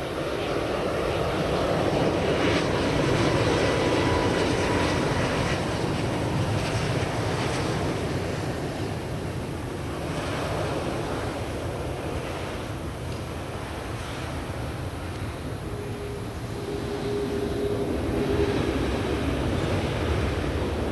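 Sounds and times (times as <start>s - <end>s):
jet airliner roar with whine: 0.0s - 20.9s.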